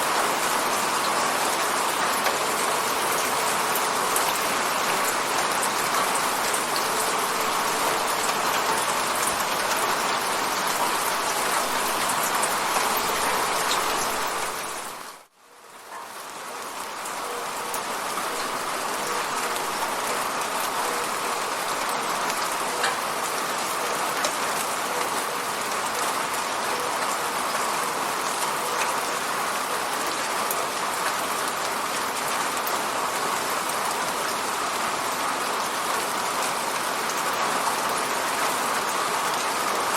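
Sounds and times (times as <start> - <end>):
rain hitting a window: 0.0 - 39.9.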